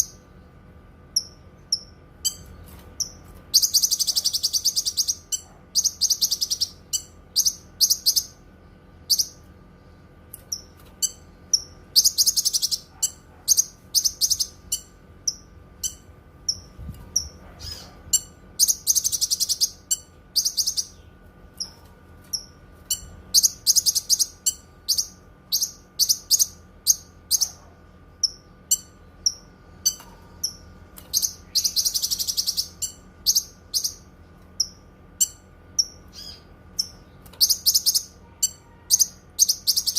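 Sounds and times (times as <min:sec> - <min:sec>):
songbird singing: 0:01.1 - 0:09.5, 0:10.4 - 0:39.9.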